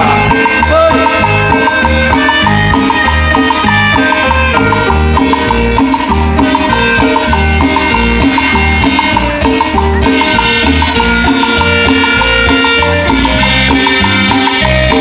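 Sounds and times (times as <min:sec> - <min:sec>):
live band playing cumbia: 0:00.0 - 0:15.0.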